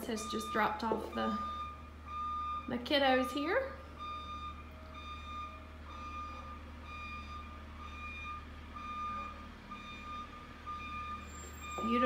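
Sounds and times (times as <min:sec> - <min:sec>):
bus backup alarm beeping: 0:00.0 - 0:12.0.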